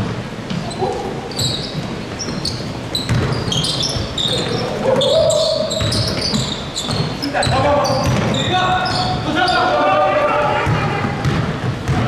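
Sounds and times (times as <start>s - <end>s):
basketball bouncing on court: 0.0s - 12.0s
sneaker squeaks: 0.4s - 12.0s.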